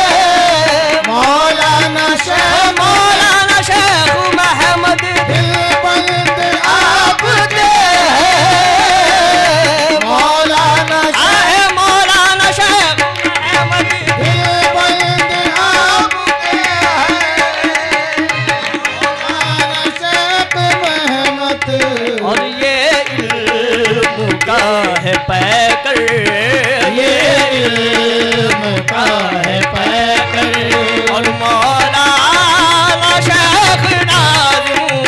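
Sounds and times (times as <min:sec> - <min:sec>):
tabla drumming: 0:00.0 - 0:35.0
wavering devotional melody: 0:00.0 - 0:35.0.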